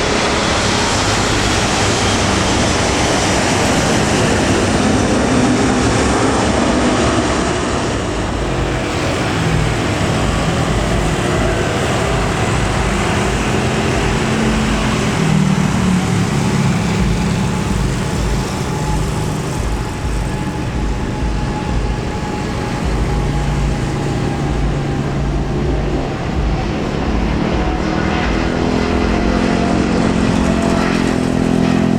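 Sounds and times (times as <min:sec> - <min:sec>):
jet engines roaring: 0:00.0 - 0:31.9.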